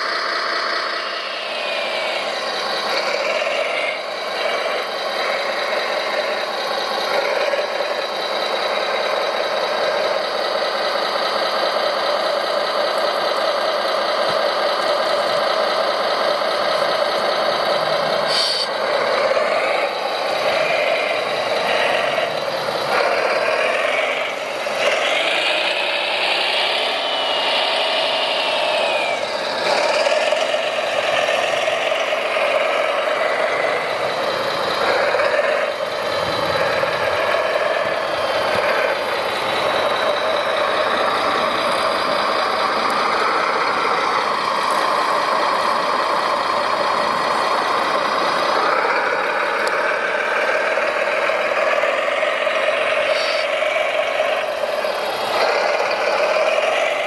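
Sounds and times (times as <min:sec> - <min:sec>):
model loader mechanical whine: 0:00.0 - 0:57.0.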